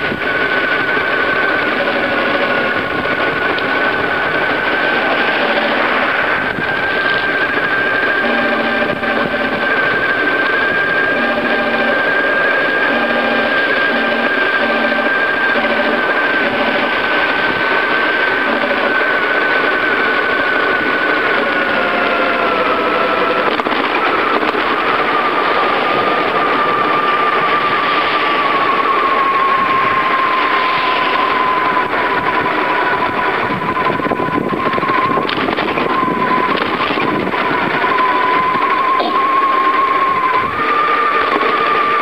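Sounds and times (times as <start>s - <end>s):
bicycle rolling on pavement: 0.0s - 11.2s, 15.2s - 42.0s
steady high whine: 0.0s - 42.0s.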